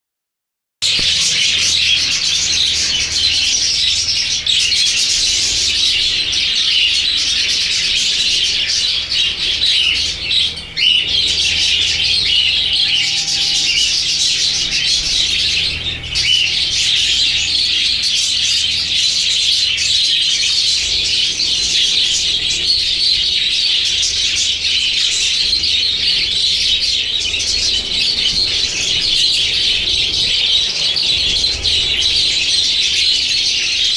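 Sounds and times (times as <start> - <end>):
budgerigars chattering and chirping: 0.8 - 33.9.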